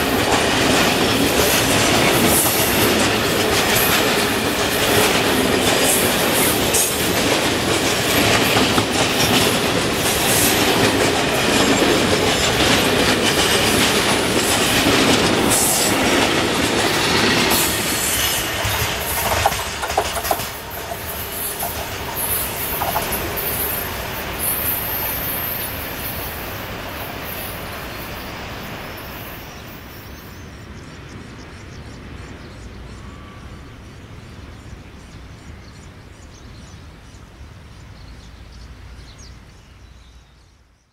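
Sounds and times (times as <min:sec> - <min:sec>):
freight train rumbling: 0:00.0 - 0:40.8.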